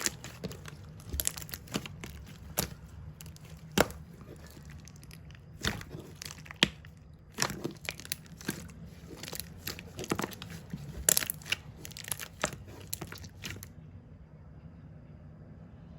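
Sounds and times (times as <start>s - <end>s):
small objects tapping and crinkling: 0.0s - 13.7s.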